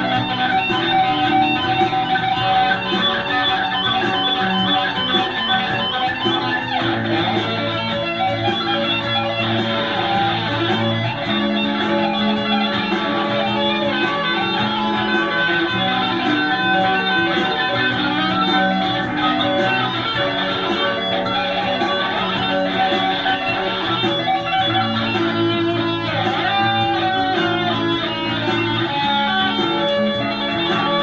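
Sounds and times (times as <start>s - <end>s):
guitar music with plucked notes: 0.0s - 31.0s.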